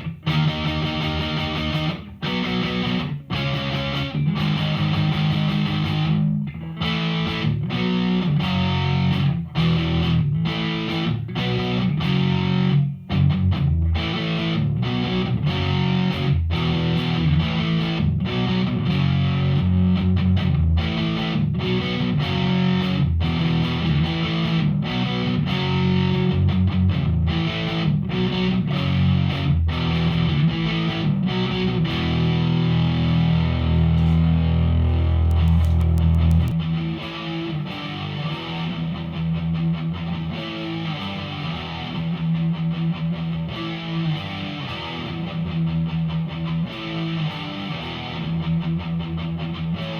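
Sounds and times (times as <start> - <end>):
distorted electric guitar riffing: 0.0 - 49.9.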